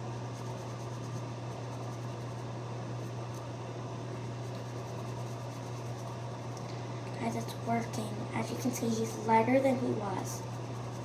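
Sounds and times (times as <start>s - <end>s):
low mechanical hum with hiss: 0.0s - 11.0s.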